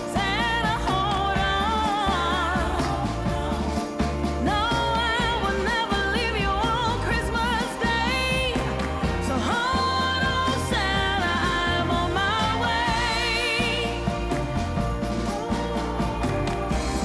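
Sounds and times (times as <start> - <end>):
steady bass line: 0.0 - 17.0.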